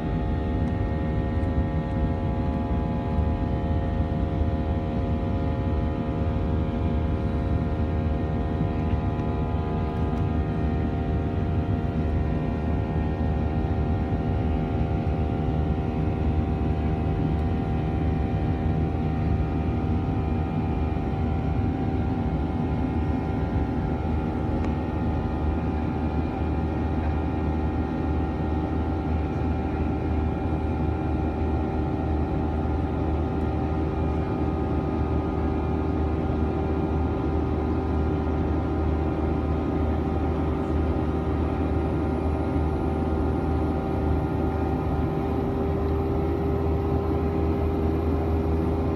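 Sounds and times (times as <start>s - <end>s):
jet engines humming in cabin: 0.0s - 48.9s.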